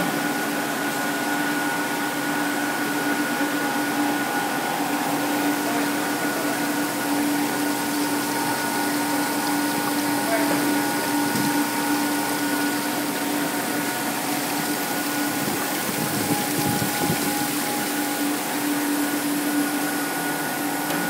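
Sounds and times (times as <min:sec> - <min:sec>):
machine hum with tones: 0:00.0 - 0:21.0
water jets spraying: 0:00.0 - 0:21.0.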